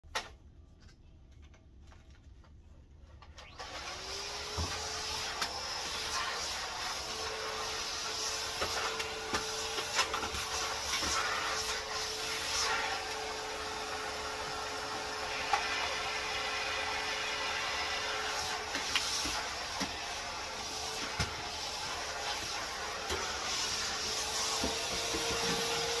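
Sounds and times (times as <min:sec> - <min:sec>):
vacuum cleaner running: 0:03.4 - 0:26.0.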